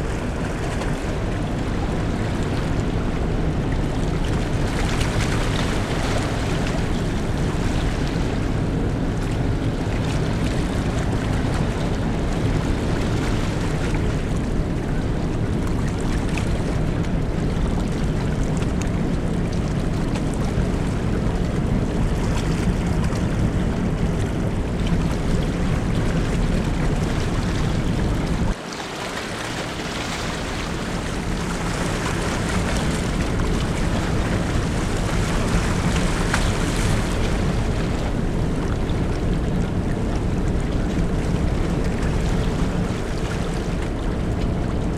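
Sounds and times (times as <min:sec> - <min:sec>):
ship engine low rumble: 0:00.0 - 0:44.9
water noise: 0:00.0 - 0:44.9
wind: 0:00.0 - 0:44.9.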